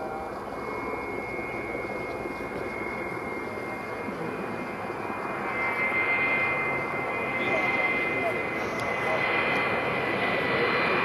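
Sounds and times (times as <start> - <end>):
distant jet rushing noise: 0.0 - 11.0
thin high jet whine: 0.0 - 11.0.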